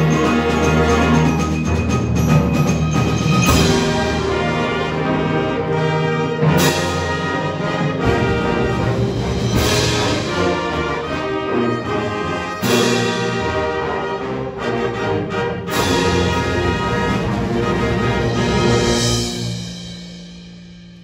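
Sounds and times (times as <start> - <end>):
concert band playing: 0.0 - 20.0.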